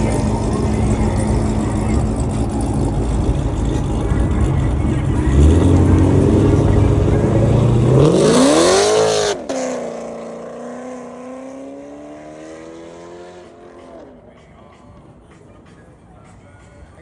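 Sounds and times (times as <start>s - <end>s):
car engine revving: 0.0s - 14.3s
car pulling off: 0.0s - 14.4s.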